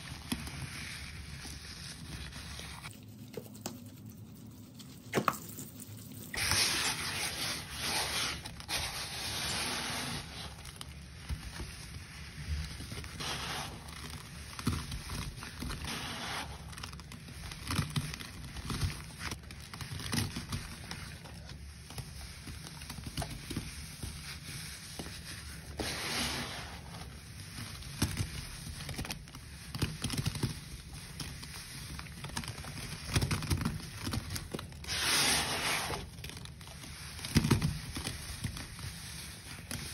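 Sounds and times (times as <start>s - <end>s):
gritty powder crunching and scraping: 0.0s - 39.9s.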